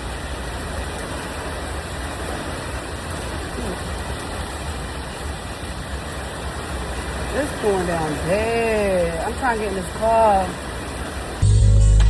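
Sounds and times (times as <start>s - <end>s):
heavy rain pouring: 0.0s - 11.8s.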